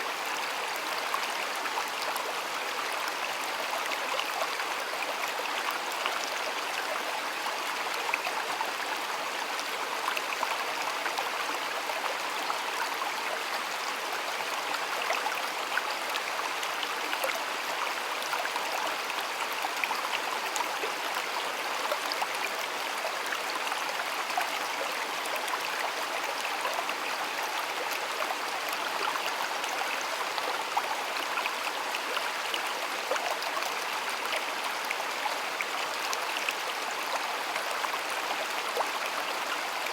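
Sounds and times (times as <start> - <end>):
stream flowing over stones: 0.1 - 39.9.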